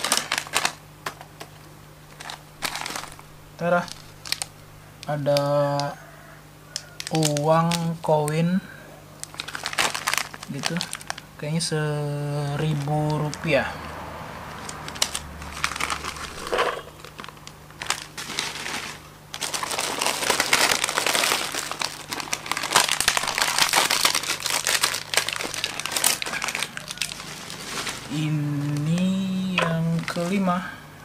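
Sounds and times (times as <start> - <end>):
plastic snack packet crinkling: 0.0 - 5.9, 6.8 - 8.5, 9.2 - 13.7, 14.6 - 30.6.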